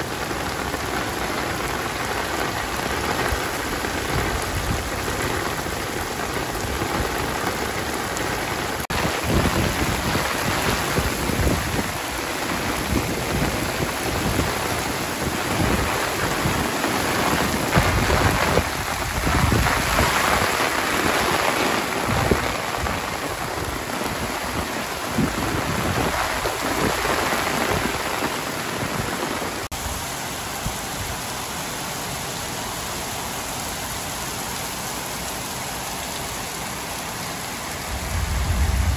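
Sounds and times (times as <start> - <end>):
heavy rain on pavement: 0.0 - 38.9.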